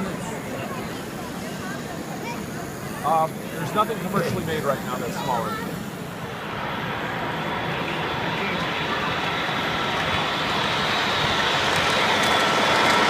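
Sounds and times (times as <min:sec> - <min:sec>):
faint steady whine: 0:00.0 - 0:13.0
model train running: 0:00.0 - 0:13.0.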